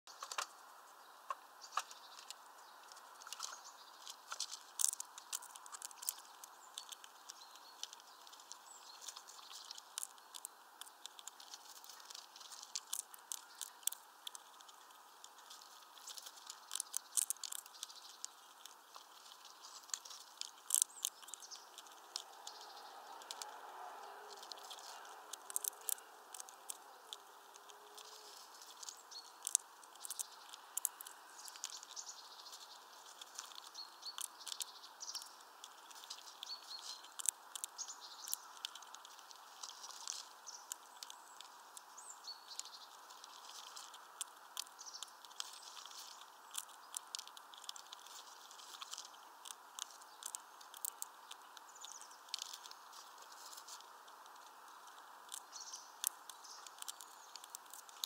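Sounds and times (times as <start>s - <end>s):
squirrel cracking seed shells: 0.1s - 58.0s.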